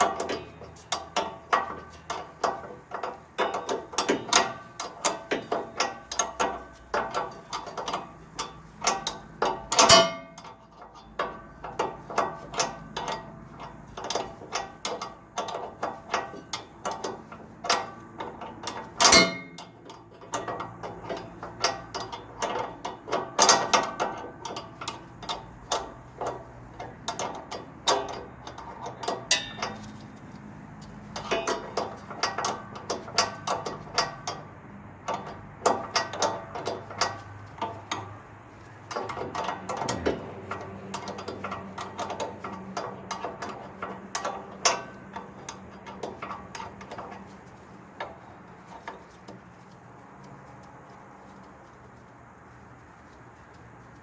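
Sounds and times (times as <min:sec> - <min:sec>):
ratchet wrench clicking: 0:00.0 - 0:52.1.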